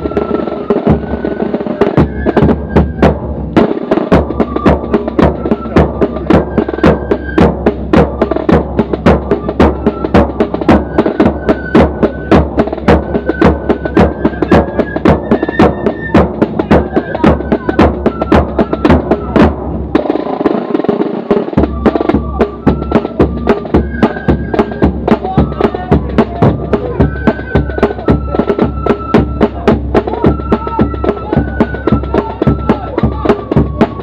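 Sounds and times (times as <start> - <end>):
flute melody: 0.0 - 20.7, 21.5 - 34.0
snare and bass drums beating: 0.0 - 34.0.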